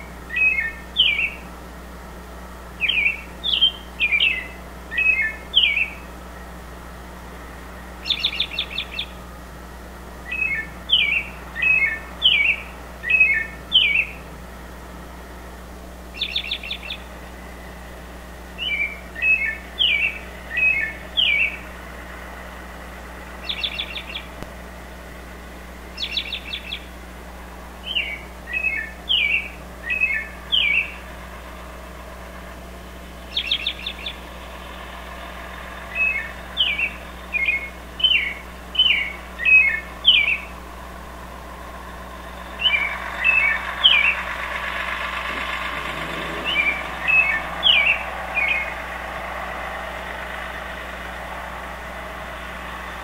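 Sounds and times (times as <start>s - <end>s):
songbirds chattering: 0.0s - 53.0s.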